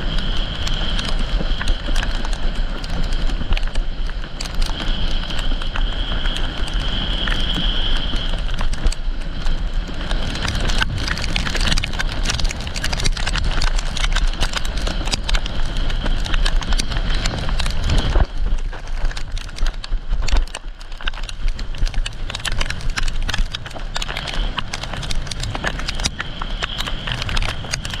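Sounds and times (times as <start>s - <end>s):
board hissing and slapping water: 0.0s - 28.0s
crackle of hail ticks: 0.0s - 28.0s
wind rush on microphone: 0.0s - 28.0s.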